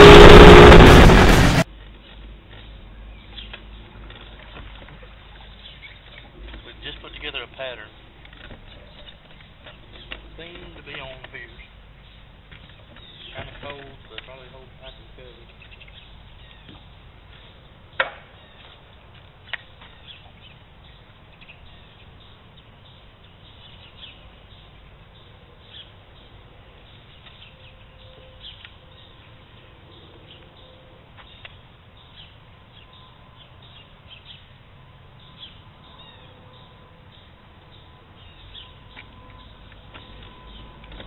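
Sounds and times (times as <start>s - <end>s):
low background noise: 1.6s - 41.0s
birds chirping: 5.1s - 41.0s.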